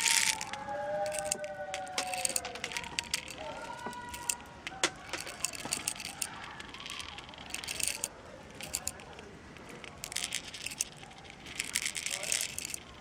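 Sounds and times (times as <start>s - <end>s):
faint sliding tones: 0.0s - 13.0s
metal pistol parts clicking and rattling: 0.0s - 13.0s.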